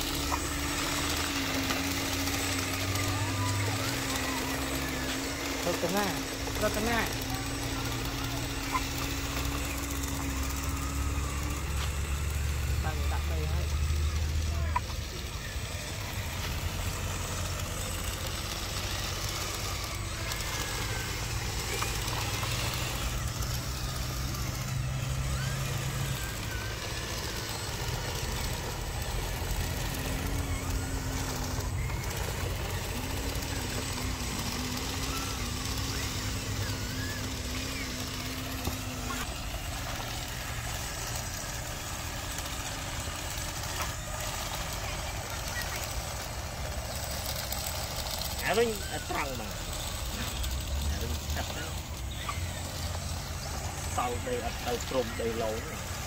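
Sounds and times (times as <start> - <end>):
wavering tone: 0.0 - 46.2
model vehicles mechanical drone: 0.0 - 56.0.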